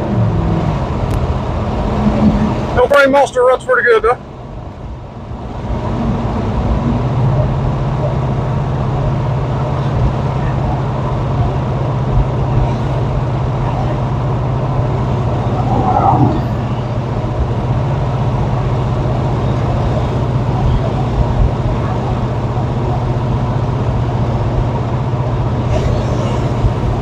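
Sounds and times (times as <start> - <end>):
car engine droning: 0.0 - 27.0
road noise: 0.0 - 27.0.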